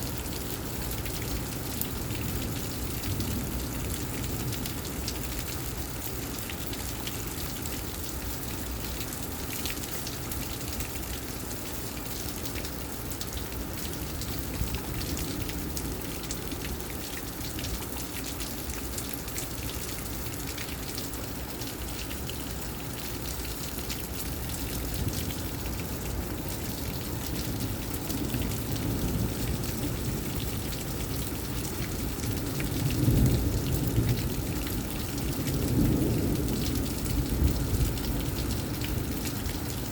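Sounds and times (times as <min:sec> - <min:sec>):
raindrops ticking: 0:00.0 - 0:39.9.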